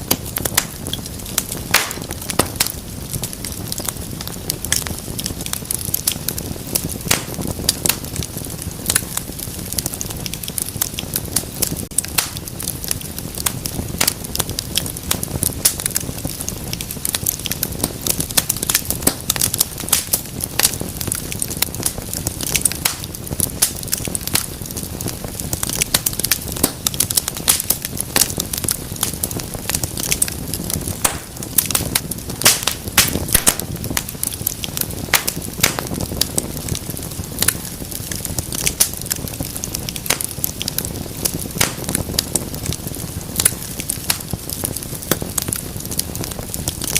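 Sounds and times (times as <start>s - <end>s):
low rumble of flame: 0.0s - 46.9s
wood fire crackling and popping: 0.0s - 46.9s.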